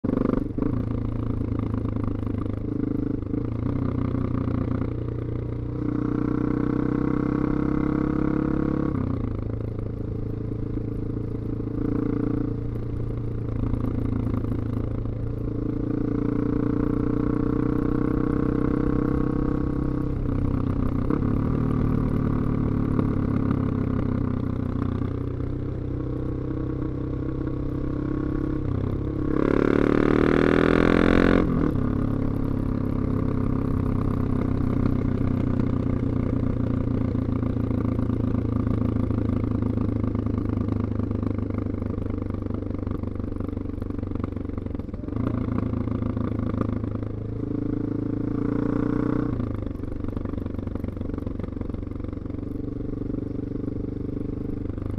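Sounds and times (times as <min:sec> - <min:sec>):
motorcycle engine riding: 0:00.0 - 0:54.9.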